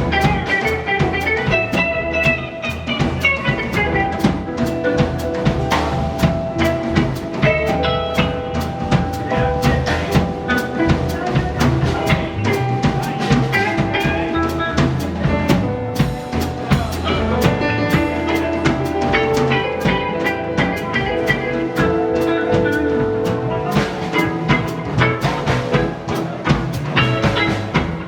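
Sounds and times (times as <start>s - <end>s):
drum kit beats: 0.0s - 28.0s
live rock band playing: 0.0s - 28.0s.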